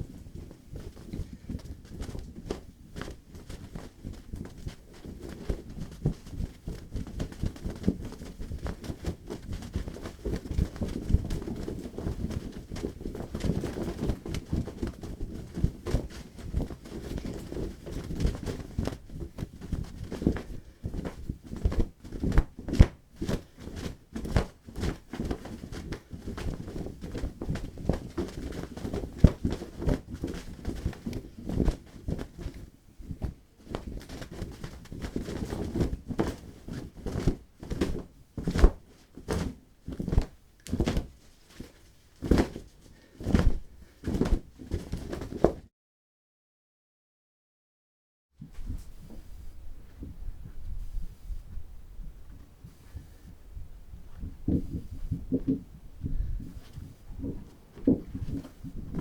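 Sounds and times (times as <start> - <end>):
rug being shaken: 0.0 - 45.6, 50.8 - 59.0.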